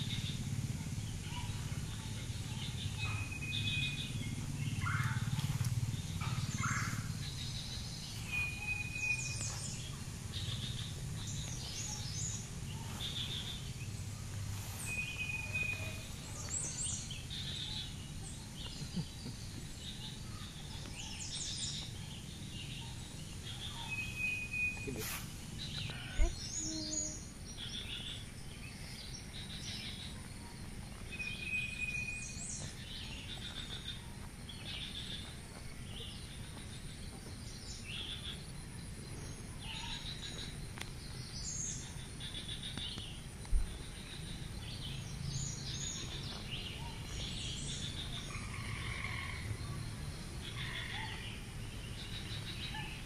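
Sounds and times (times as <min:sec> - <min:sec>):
birds chirping and calling: 0:00.0 - 0:53.0.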